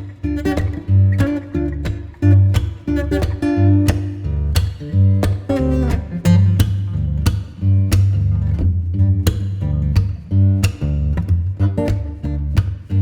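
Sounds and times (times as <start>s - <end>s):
bass line: 0.0s - 13.0s
steady beat: 0.0s - 13.0s
strummed guitar: 0.0s - 13.0s.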